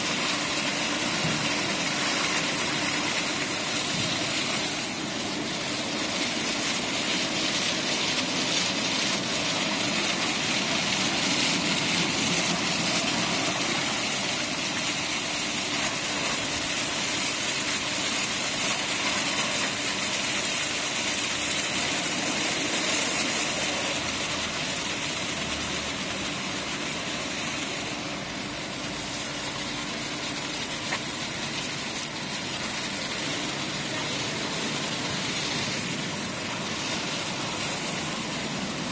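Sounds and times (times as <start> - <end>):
car wash brushes and spray hiss: 0.0 - 38.9.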